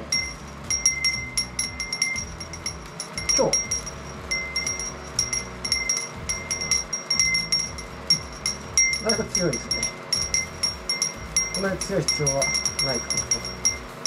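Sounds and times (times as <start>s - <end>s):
electric fan running: 0.0s - 14.0s
glass wind chime ringing: 0.0s - 14.0s.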